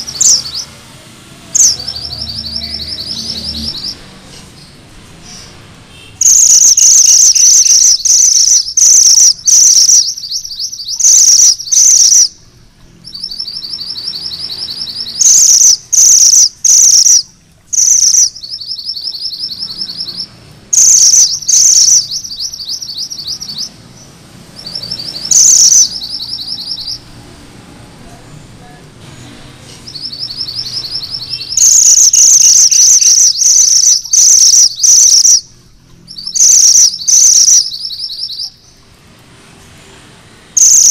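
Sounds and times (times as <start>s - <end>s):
songbird trilling: 0.0s - 0.8s, 1.5s - 5.5s, 6.2s - 27.2s, 29.8s - 38.8s, 40.6s - 40.9s.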